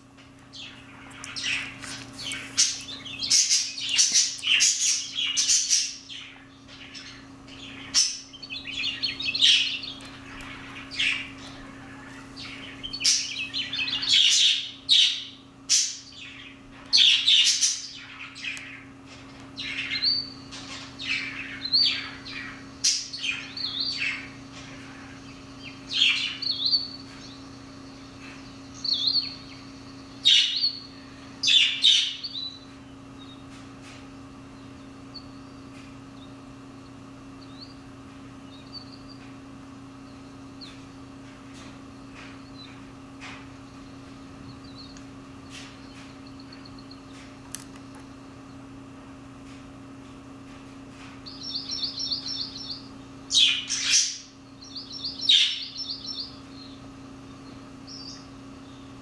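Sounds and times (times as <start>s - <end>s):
small birds chirping: 0.0s - 59.0s
steady low hum: 0.0s - 59.0s.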